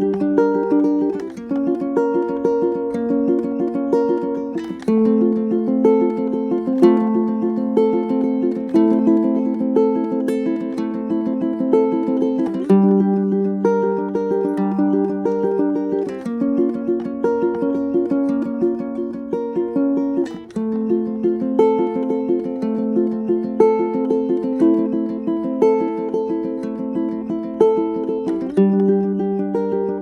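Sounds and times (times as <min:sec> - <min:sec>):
ukulele picked note pattern: 0:00.0 - 0:30.0.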